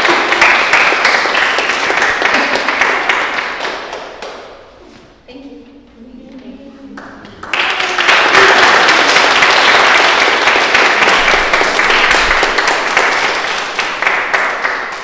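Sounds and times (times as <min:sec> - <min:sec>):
audience applauding: 0:00.0 - 0:04.5, 0:07.0 - 0:15.0.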